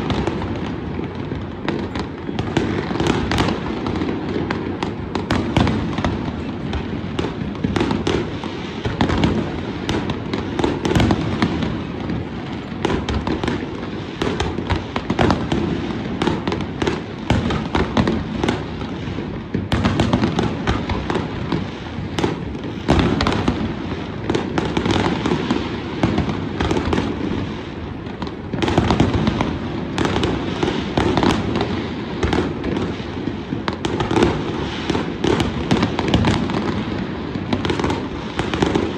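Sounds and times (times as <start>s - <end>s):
fireworks bursts and bangs: 0.0s - 38.9s
fireworks crackling: 0.0s - 38.9s.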